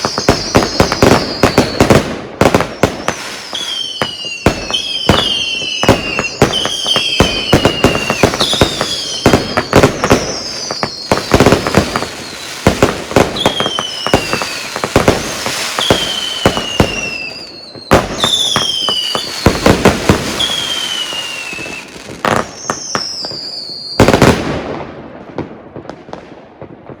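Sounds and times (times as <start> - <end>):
firework falling whistles: 0.0 - 24.4
loud firework burst: 0.0 - 25.4
firework launch cracks and bursts: 0.0 - 27.0.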